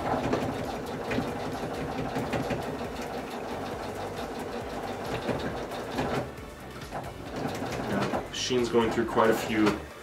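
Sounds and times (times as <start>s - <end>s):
electric sewing machine running: 0.0s - 9.9s.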